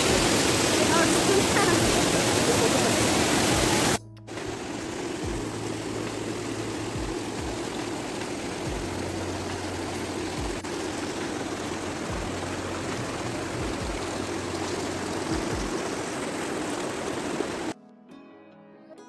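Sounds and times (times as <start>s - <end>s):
mountain stream rushing: 0.0s - 17.8s.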